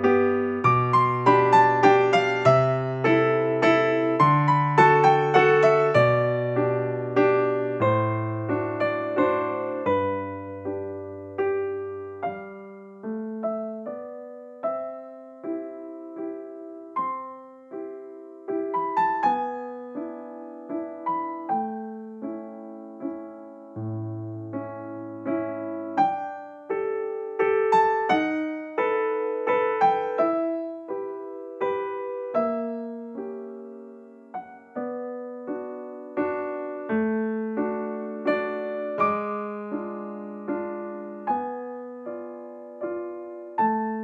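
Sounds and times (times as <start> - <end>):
gentle piano music: 0.0 - 44.0.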